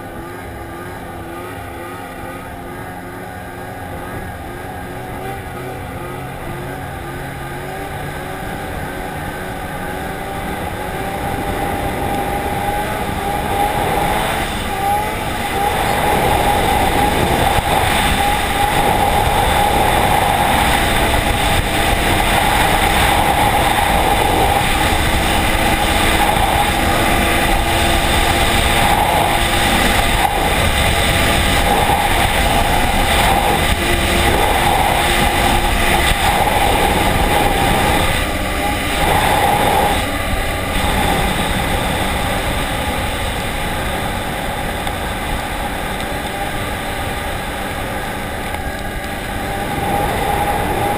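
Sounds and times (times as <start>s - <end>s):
snowmobile engine at high speed: 0.0s - 50.9s.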